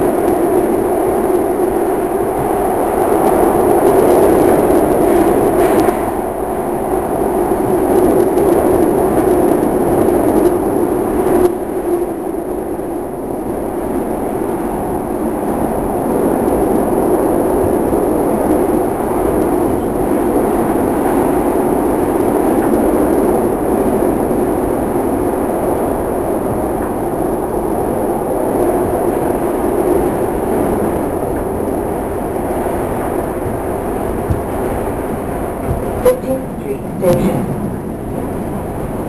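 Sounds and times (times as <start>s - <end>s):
subway car rumbling in tunnel: 0.0s - 39.0s.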